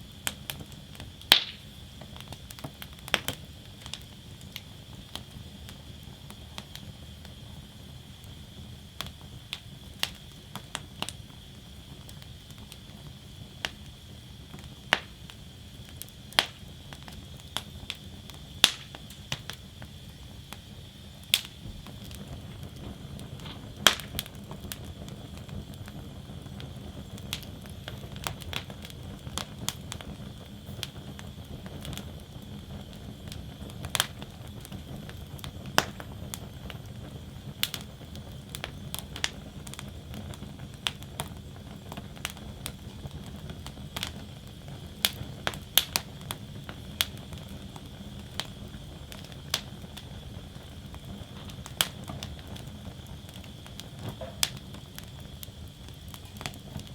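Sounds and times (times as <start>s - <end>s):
low rustle of flames: 0.0s - 56.9s
wood fire crackling and popping: 0.0s - 56.9s.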